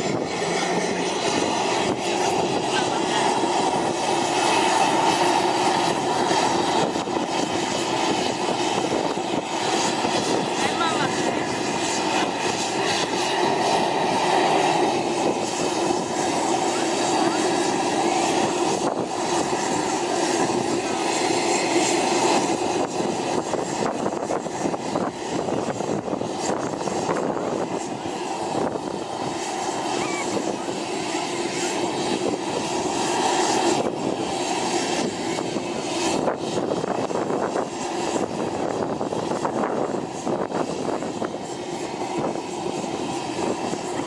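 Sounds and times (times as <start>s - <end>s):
helicopter engines and rotor running: 0.0s - 44.0s.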